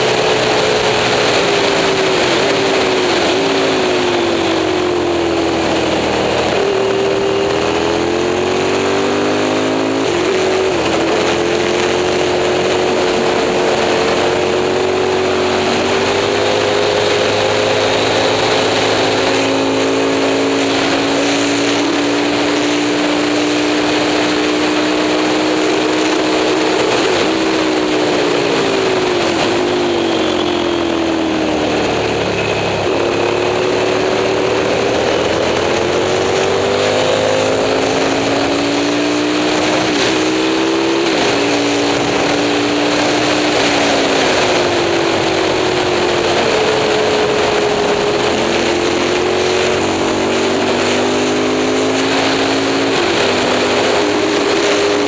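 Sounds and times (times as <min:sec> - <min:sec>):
motorcycle engine at racing revs: 0:00.0 - 0:55.0.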